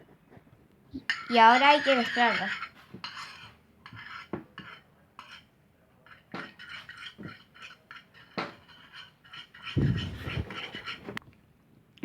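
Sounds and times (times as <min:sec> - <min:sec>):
utensil stirring and scraping glue: 0:01.1 - 0:11.2.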